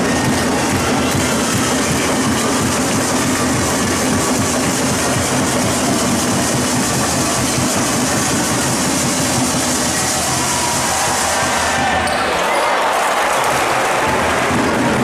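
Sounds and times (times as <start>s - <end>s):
arena crowd din: 0.0s - 15.0s.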